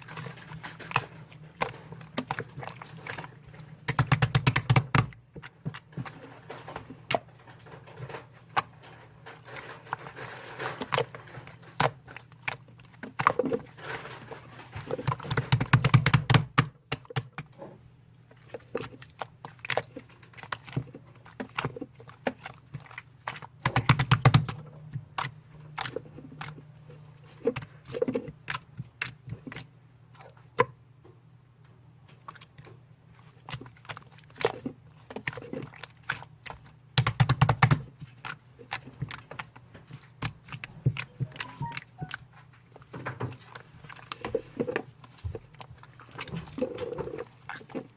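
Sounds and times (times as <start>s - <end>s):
slime squelching and popping: 0.0s - 30.8s, 32.1s - 47.9s.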